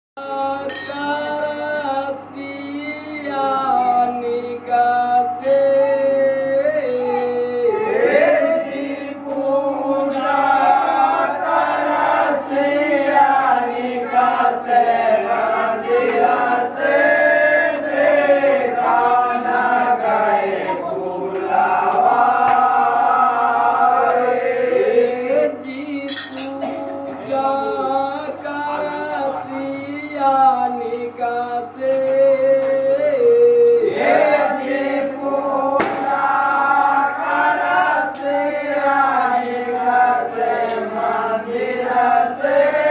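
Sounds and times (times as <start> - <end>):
men singing folk song together: 0.2 - 42.9.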